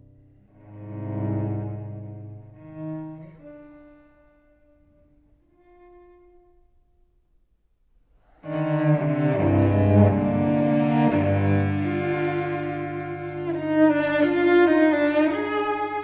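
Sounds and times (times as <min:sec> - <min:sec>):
solo cello: 0:00.0 - 0:07.3, 0:08.2 - 0:16.0.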